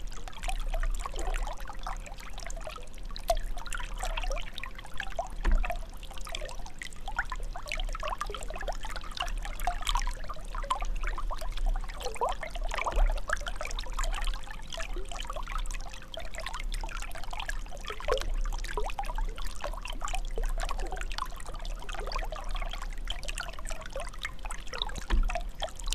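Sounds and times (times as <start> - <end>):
water trickling and gurgling: 0.0 - 25.9.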